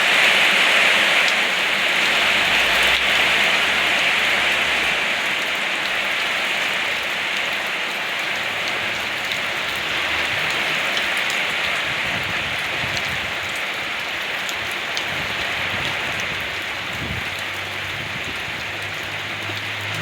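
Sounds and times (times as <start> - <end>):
heavy rain falling: 0.0 - 20.0
raindrops ticking: 2.1 - 20.0.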